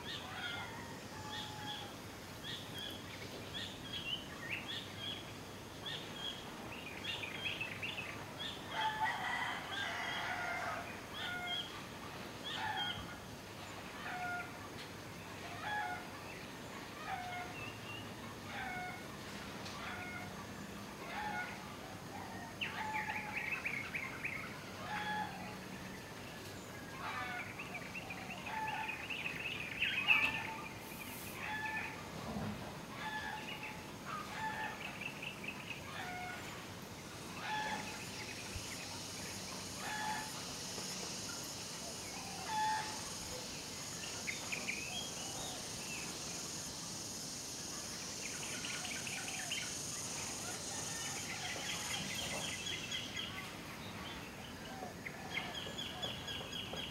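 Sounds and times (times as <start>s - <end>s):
steady high hiss: 0.0s - 56.9s.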